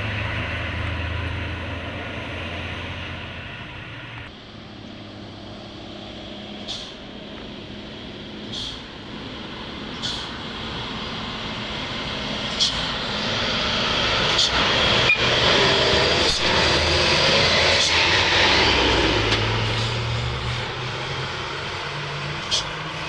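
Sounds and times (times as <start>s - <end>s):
diesel truck engine working hard: 0.0s - 23.0s.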